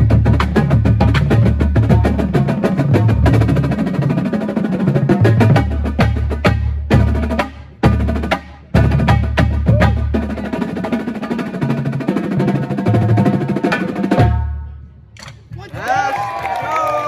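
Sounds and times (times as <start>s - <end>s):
drum corps unison accents: 0.0s - 14.6s, 15.2s - 17.0s
tenor drums: 0.0s - 16.7s.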